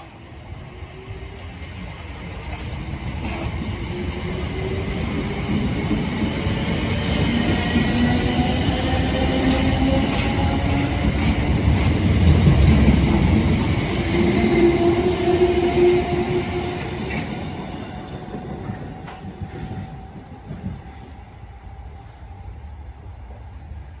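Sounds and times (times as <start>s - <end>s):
train engine droning: 0.0s - 24.0s.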